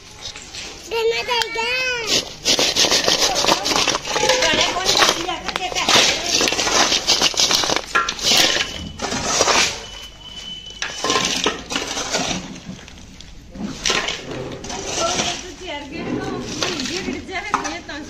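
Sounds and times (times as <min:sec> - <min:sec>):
hard objects clattering and clinking: 0:00.0 - 0:18.0.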